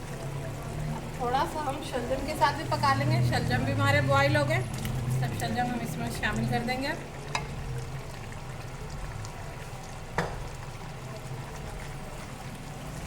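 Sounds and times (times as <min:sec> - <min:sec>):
food pouring and splashing: 0:00.0 - 0:13.0
pot cooking noise: 0:00.0 - 0:13.0.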